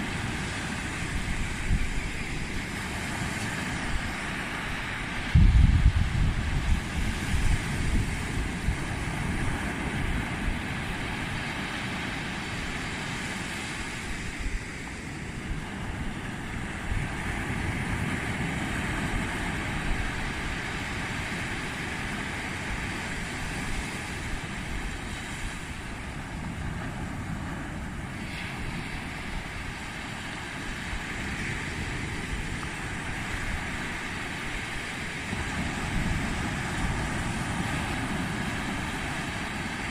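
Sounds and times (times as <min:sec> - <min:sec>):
small waves breaking on beach: 0:00.0 - 0:39.9
wind buffeting microphone: 0:00.0 - 0:39.9.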